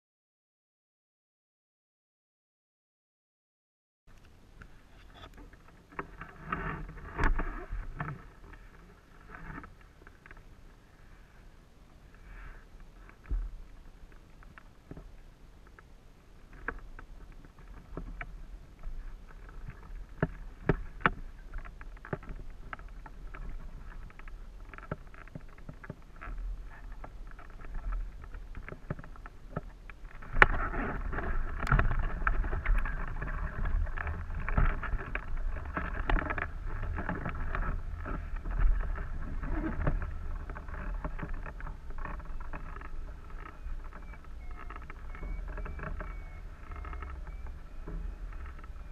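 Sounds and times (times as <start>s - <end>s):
faint clicks and knocks: 4.1s - 11.3s, 12.0s - 48.9s.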